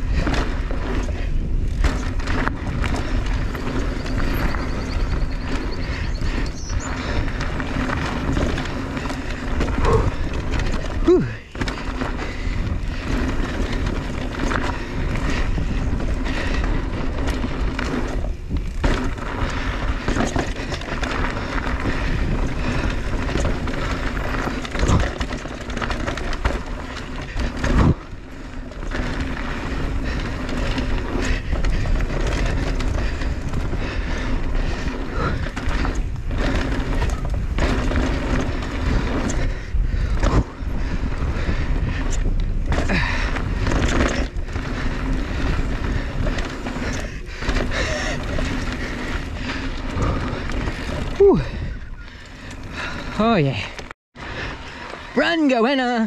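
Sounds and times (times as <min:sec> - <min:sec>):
wind on microphone: 0:00.0 - 0:53.9
bike rattling: 0:00.0 - 0:56.0
tyres rolling on dirt: 0:00.0 - 0:56.0.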